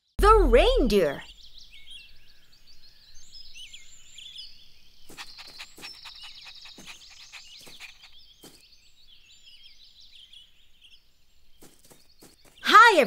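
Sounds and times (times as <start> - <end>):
bird chirps and twitters: 0.4 - 13.0.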